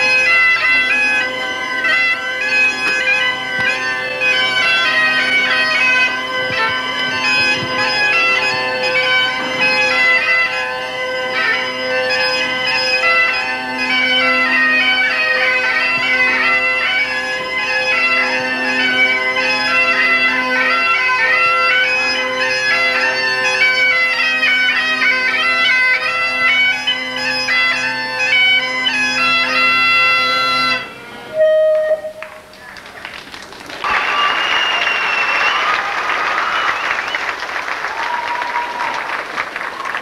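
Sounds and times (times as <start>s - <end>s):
bagpipes playing a tune: 0.0s - 32.2s.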